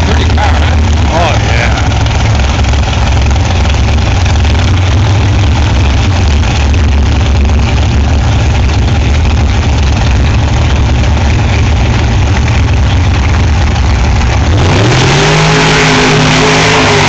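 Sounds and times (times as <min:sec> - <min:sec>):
dragster engine revving and launching: 0:00.0 - 0:17.0.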